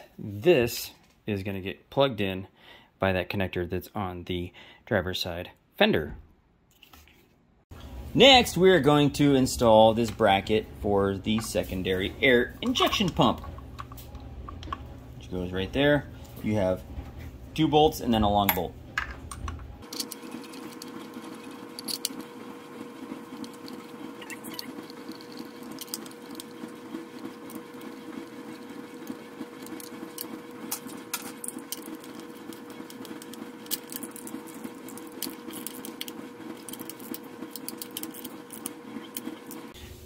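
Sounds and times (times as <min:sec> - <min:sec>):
steady background hum: 0:07.8 - 0:40.0.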